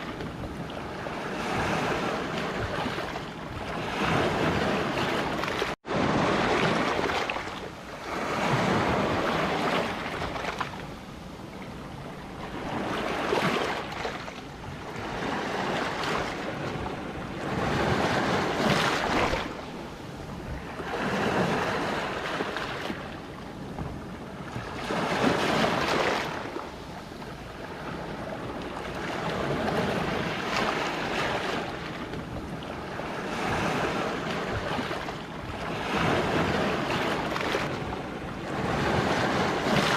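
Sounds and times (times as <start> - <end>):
sea waves breaking on rocks: 0.8 - 10.8, 12.4 - 19.8, 20.5 - 23.0, 24.5 - 26.6, 28.9 - 39.9.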